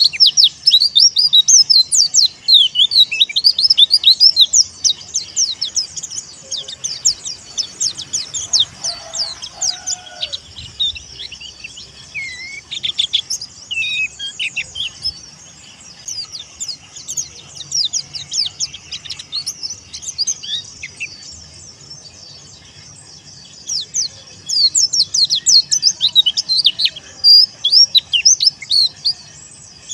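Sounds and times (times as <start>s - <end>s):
small bird high chirps: 0.0s - 29.9s.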